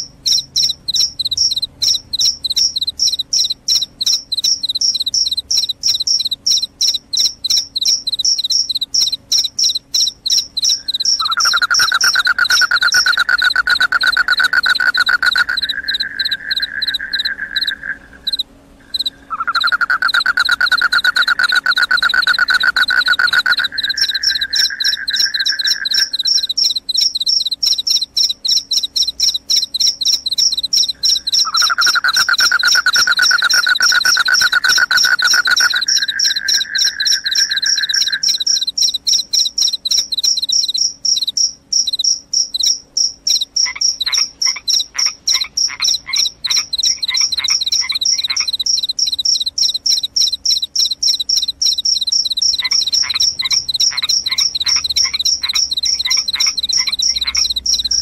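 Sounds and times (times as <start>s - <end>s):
high cricket chirping: 0.0s - 58.0s
lower-pitched cricket trill: 0.0s - 58.0s.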